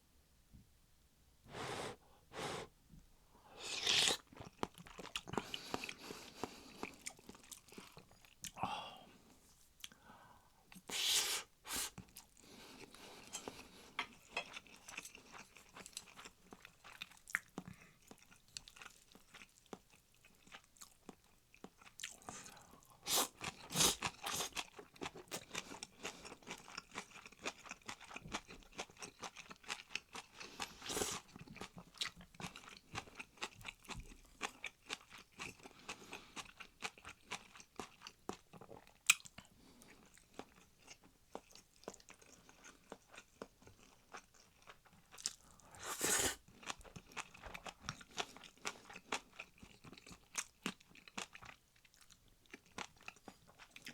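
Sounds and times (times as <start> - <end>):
person chewing and crunching food: 3.6 - 9.0, 10.7 - 53.9.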